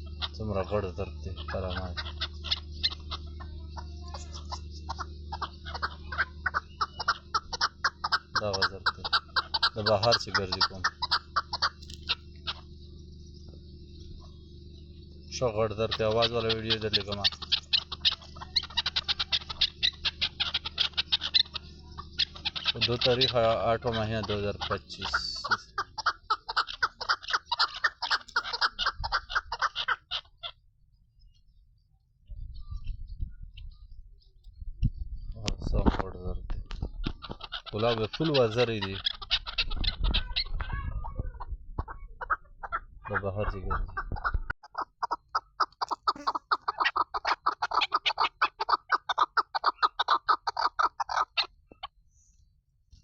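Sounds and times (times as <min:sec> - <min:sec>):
partridge calling: 0:00.0 - 0:31.6, 0:32.2 - 0:52.4.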